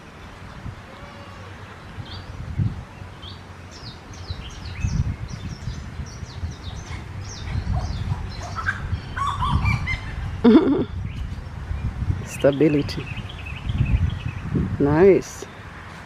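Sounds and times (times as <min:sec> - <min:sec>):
birds chirping: 0:00.0 - 0:15.8.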